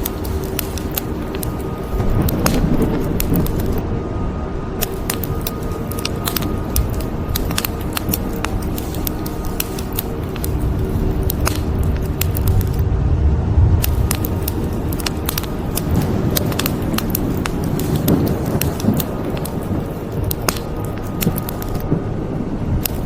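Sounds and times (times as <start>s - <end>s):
wood fire crackling and popping: 0.0s - 3.8s, 4.8s - 12.9s, 13.7s - 22.2s, 22.8s - 23.0s
steady rain: 0.0s - 23.0s
thunder rumbling: 0.0s - 23.0s.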